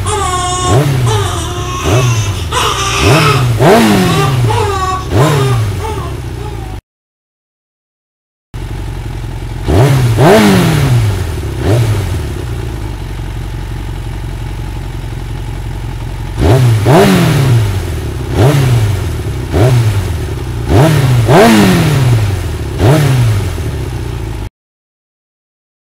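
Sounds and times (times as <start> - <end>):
vehicle engine revving: 0.0 - 6.8, 8.6 - 24.5.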